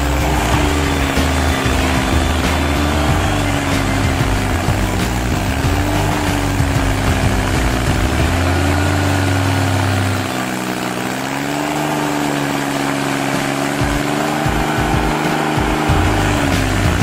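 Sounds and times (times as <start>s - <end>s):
stump grinder grinding wood: 0.0s - 17.0s.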